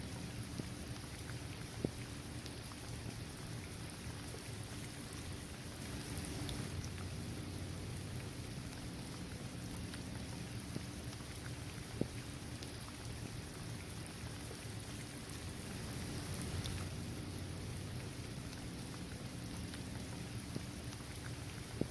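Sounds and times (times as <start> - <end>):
steady rain: 0.0 - 21.9.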